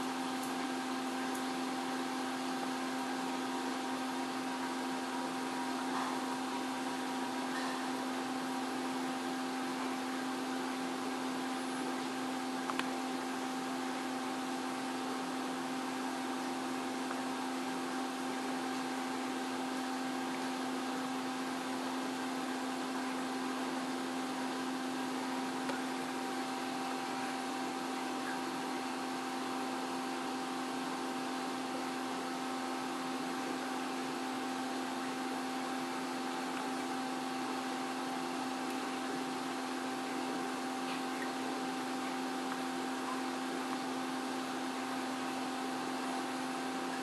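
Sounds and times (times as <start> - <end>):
aquarium pump humming: 0.0 - 47.0.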